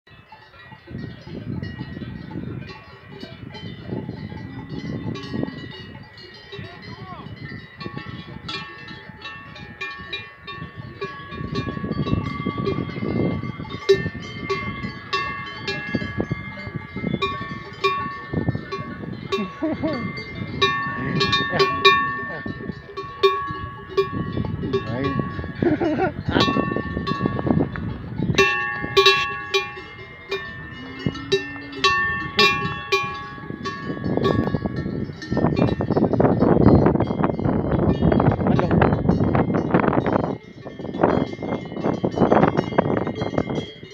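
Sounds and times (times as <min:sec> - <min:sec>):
cowbells clanking: 0:00.1 - 0:43.9.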